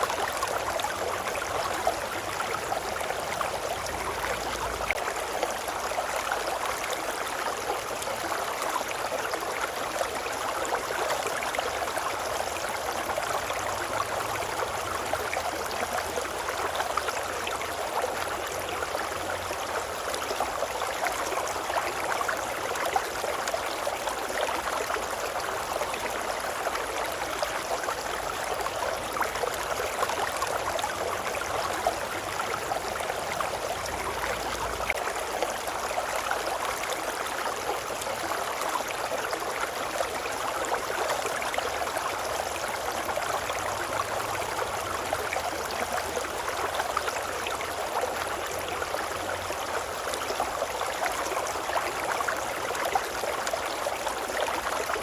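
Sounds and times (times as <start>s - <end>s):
river babbling and rushing: 0.0s - 55.0s.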